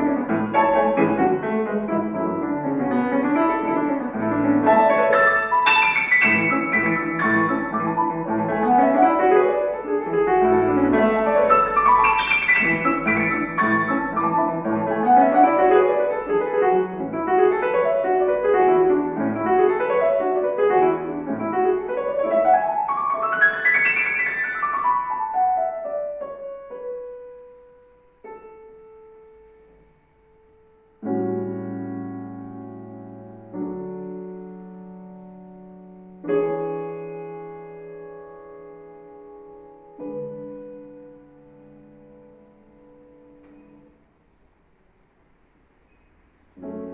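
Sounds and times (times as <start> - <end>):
solo piano: 0.0 - 46.9.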